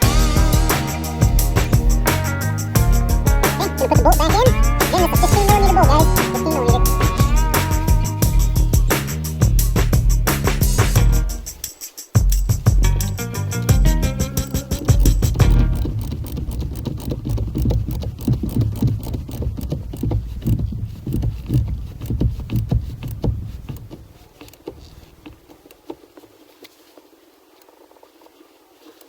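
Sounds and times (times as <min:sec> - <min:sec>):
hand tool clicks and rattles: 0:00.0 - 0:25.0.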